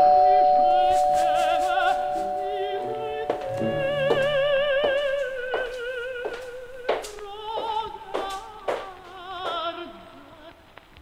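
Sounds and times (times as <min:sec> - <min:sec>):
operatic soprano singing: 0:00.0 - 0:10.7.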